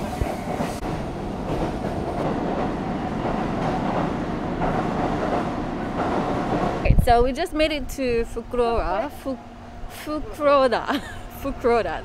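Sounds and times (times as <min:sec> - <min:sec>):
passenger train rumbling: 0:00.0 - 0:12.0
rail noise: 0:00.0 - 0:12.0.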